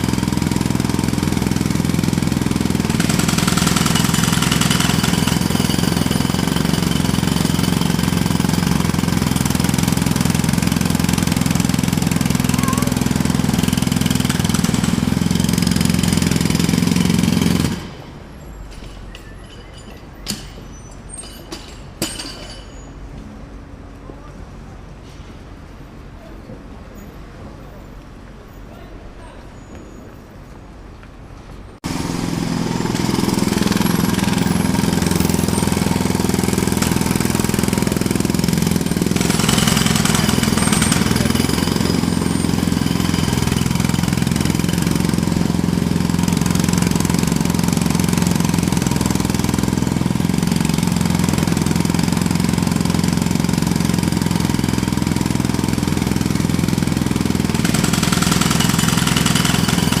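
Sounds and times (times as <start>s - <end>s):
jackhammer hammering: 0.0s - 20.7s, 21.3s - 22.8s, 31.8s - 60.0s.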